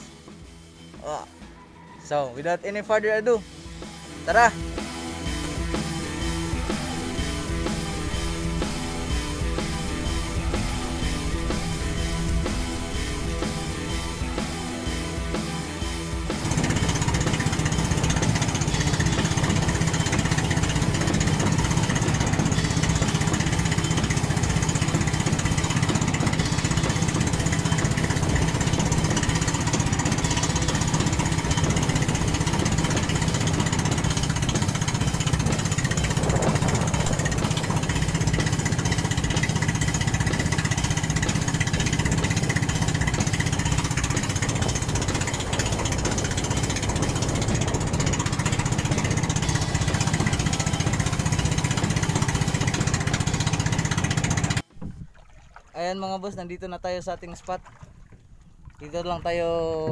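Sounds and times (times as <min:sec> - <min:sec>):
small boat engine running: 0:00.0 - 0:01.8, 0:03.0 - 0:59.9.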